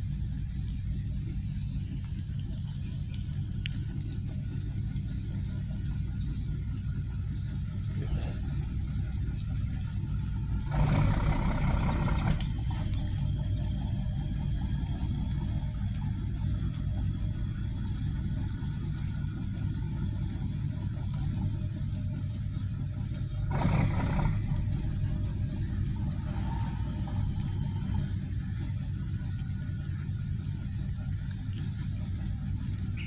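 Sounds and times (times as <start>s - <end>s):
ferry diesel engines idling: 0.0s - 33.0s.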